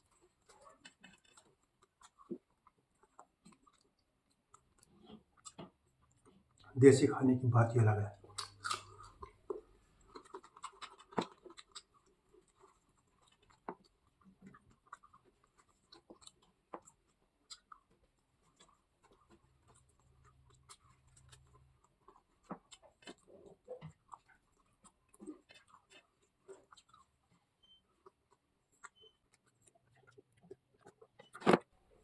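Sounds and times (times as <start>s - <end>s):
faint eating sounds: 0.0s - 32.0s.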